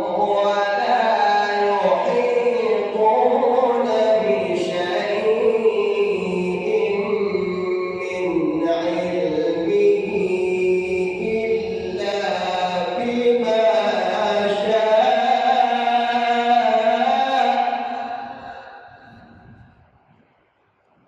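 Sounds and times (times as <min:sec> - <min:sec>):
man chanting melodically: 0:00.0 - 0:19.7.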